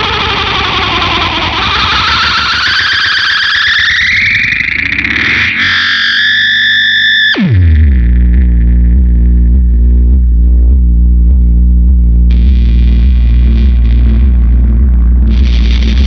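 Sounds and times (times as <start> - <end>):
fuzz electric guitar with echo: 0.0 - 16.0
low guitar drone: 0.0 - 16.0.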